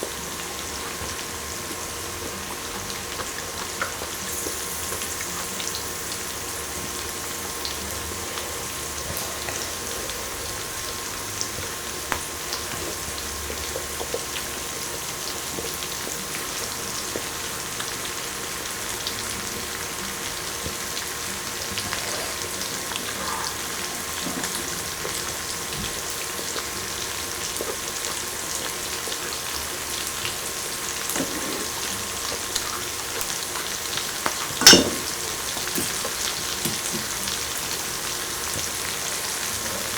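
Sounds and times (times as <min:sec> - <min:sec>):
food sizzling on a grill: 0:00.0 - 0:39.9.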